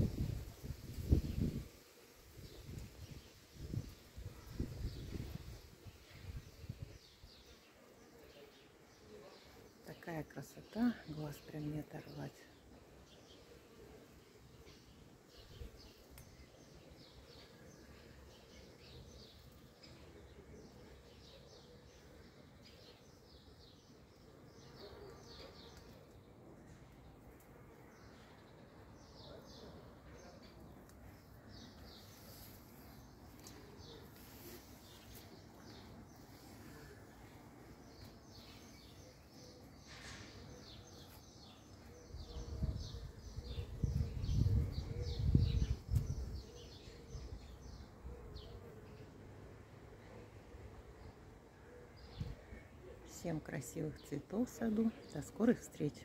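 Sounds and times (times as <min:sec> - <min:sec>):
faint birdsong chirps: 0:00.0 - 0:56.0.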